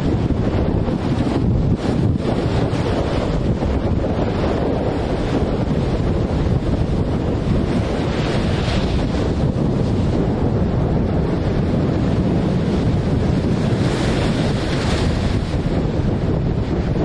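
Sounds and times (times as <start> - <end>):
sea waves breaking: 0.0 - 17.0
wind buffeting microphone: 0.0 - 17.0.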